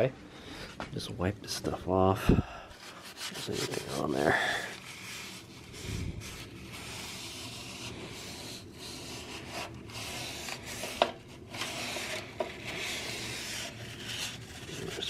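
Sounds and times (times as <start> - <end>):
paper napkin rubbing on steel: 2.8 - 15.0.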